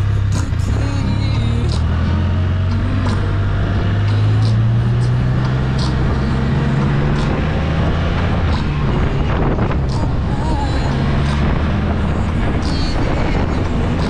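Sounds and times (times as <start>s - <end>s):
motorcycle engine drone: 0.0s - 14.0s.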